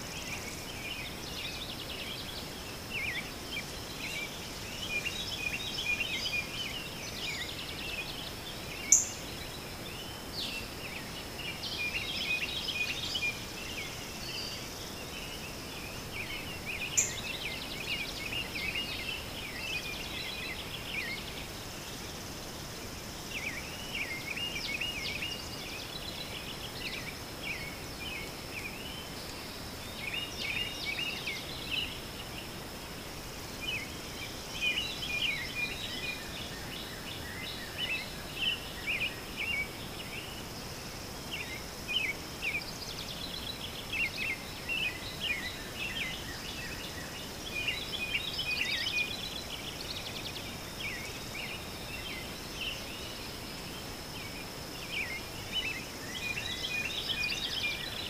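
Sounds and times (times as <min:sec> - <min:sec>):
faint high-pitched whine: 0:00.0 - 0:58.0
small birds chirping: 0:00.0 - 0:58.0.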